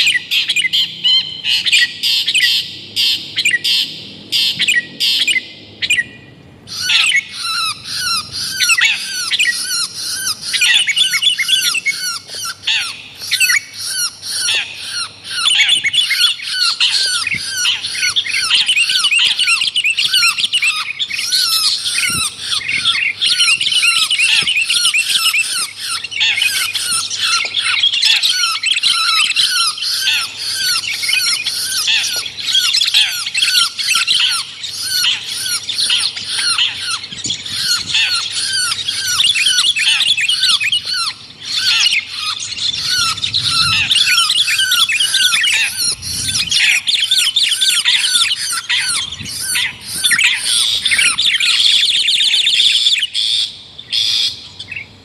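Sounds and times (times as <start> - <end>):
birds chattering and squawking: 0.0 - 55.0.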